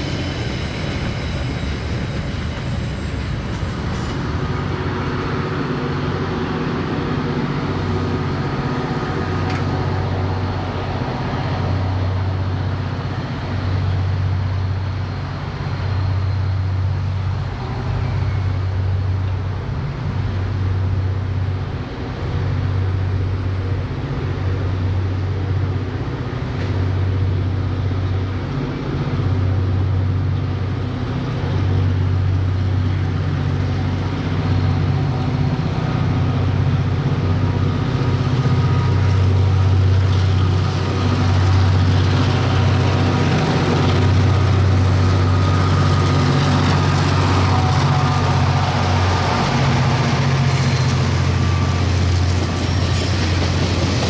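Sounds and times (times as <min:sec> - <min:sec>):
locomotive engine droning: 0:00.0 - 0:54.0.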